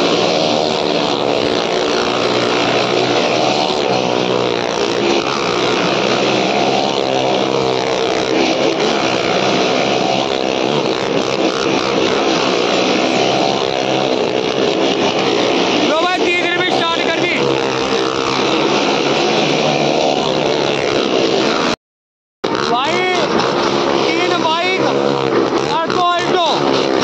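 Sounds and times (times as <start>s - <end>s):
engines droning in a drum: 0.0s - 21.8s, 22.4s - 27.0s.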